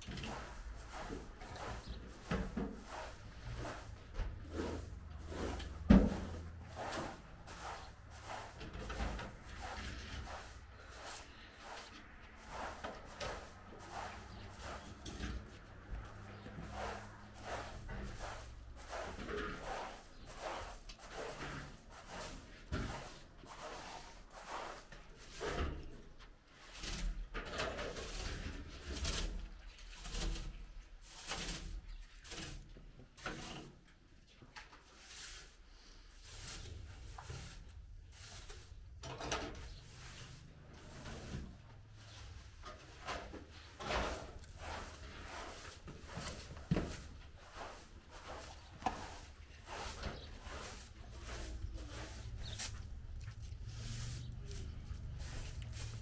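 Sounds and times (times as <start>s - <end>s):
broom sweeping carpet: 0.1s - 27.1s, 27.8s - 56.0s.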